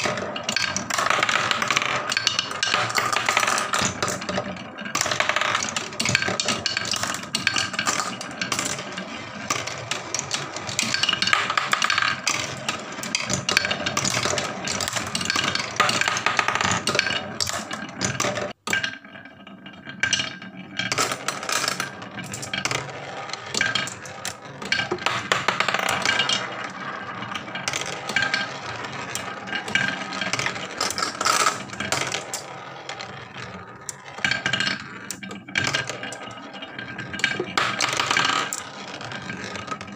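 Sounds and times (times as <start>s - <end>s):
marbles rattling down wooden chutes: 0.0s - 39.9s.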